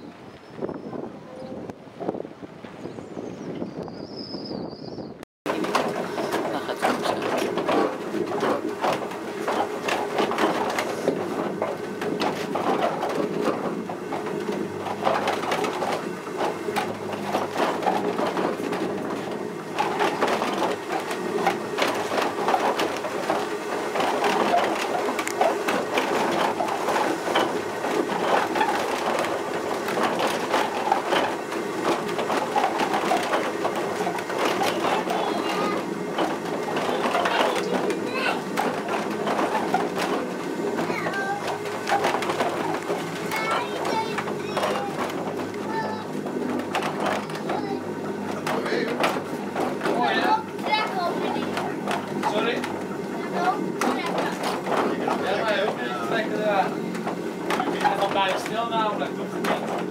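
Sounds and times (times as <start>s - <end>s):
steady rumble: 0.0s - 59.9s
wooden gear teeth clattering: 5.5s - 59.9s.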